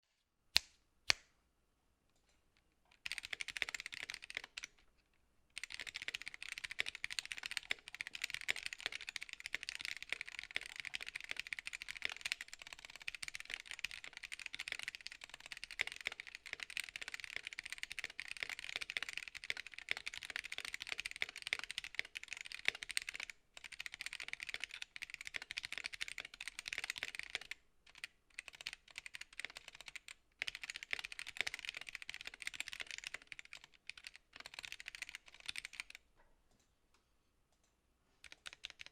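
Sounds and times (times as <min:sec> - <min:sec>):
mechanical keyboard typing: 0:02.9 - 0:04.8, 0:05.6 - 0:36.0, 0:38.2 - 0:38.9.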